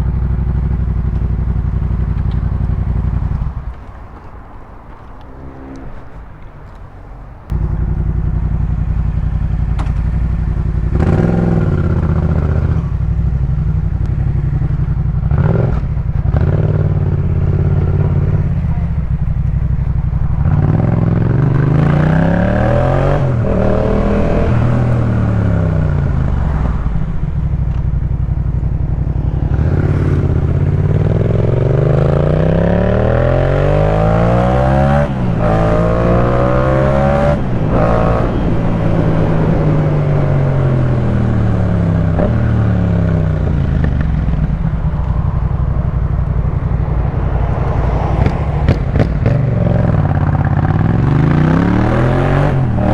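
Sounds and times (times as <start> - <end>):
motorcycle engine accelerating: 0.0 - 4.3, 7.5 - 52.9.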